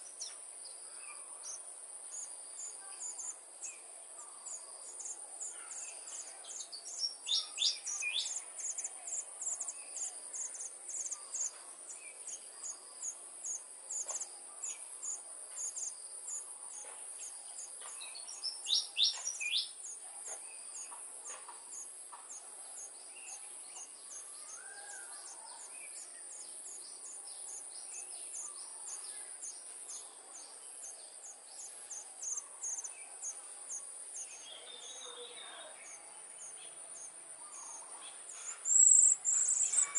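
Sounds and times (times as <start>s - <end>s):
high insect chorus chirping: 0.0s - 39.9s.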